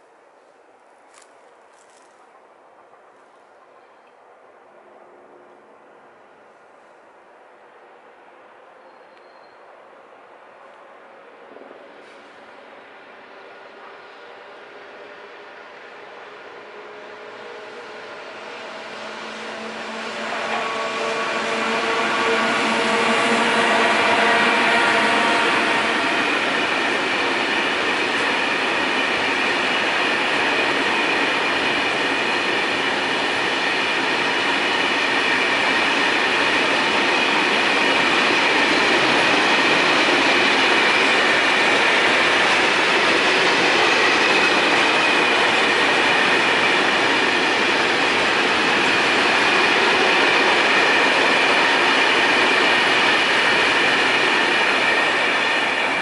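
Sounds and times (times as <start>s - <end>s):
train wheels rolling on rail: 5.2s - 56.0s.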